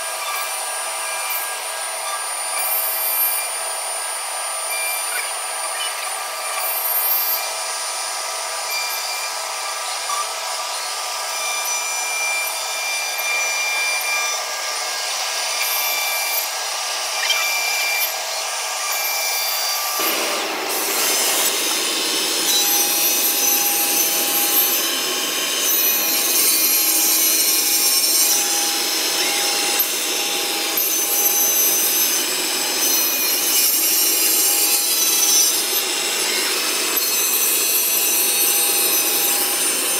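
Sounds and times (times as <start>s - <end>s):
machine cutting wood: 0.0s - 39.9s
machine sawing panel: 0.0s - 39.9s.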